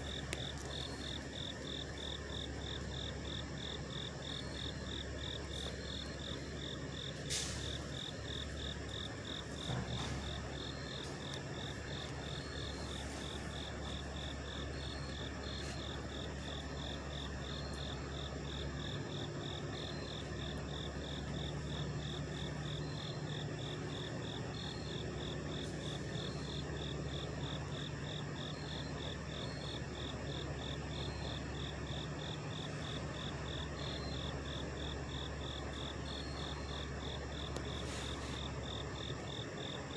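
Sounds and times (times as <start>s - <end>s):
truck engines idling: 0.0s - 39.9s.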